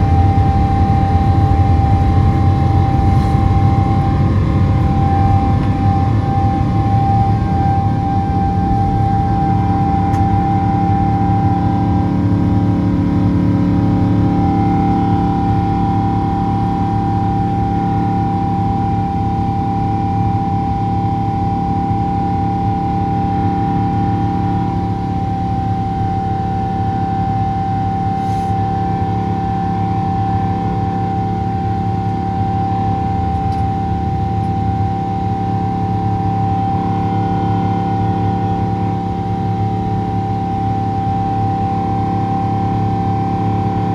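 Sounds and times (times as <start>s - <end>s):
jet engine whine and drone: 0.0s - 43.9s.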